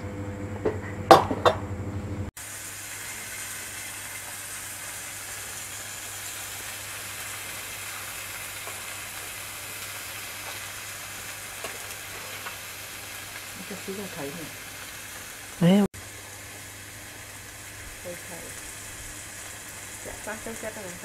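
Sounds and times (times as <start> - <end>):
meat sizzling on grill: 2.4 - 21.0.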